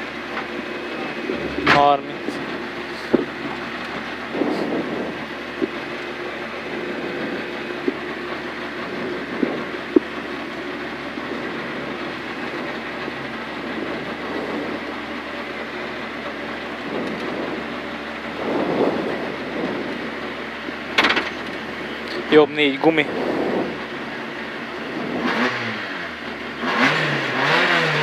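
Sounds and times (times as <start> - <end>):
rally car engine idling: 0.0 - 28.0.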